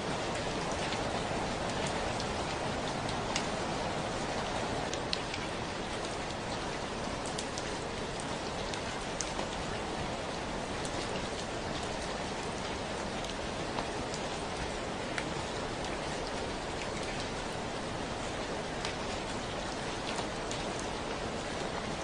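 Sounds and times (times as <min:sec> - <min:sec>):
gentle rain falling: 0:00.0 - 0:22.0.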